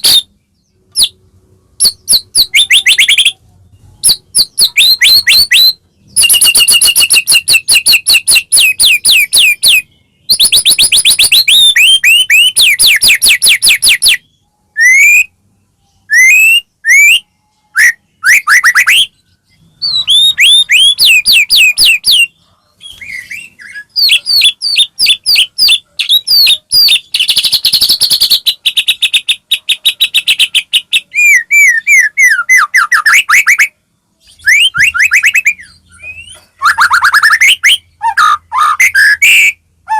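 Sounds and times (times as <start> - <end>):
bird singing whistles and chatter: 0.0 - 1.2, 1.8 - 39.9.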